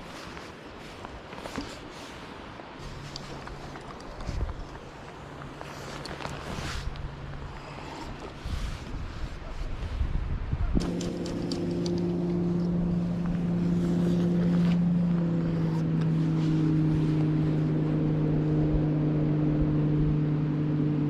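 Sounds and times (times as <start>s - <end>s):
motorboat engine droning: 1.4s - 21.0s.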